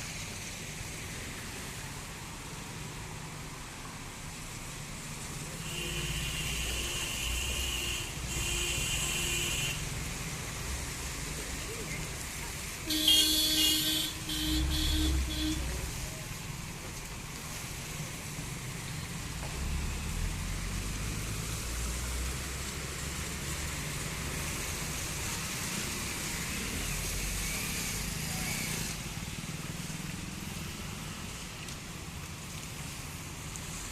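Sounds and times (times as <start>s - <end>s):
road traffic: 0.0s - 33.9s.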